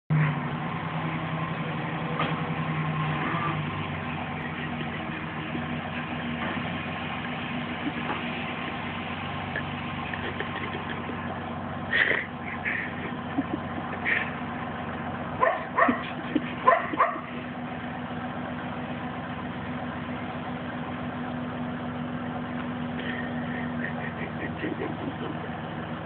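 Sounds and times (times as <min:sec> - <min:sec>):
truck engine idling: 0:00.1 - 0:26.0.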